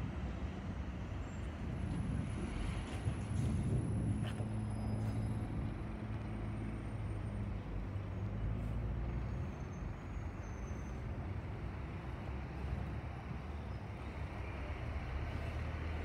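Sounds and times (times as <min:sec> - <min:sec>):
open-air background noise: 0:00.0 - 0:16.0.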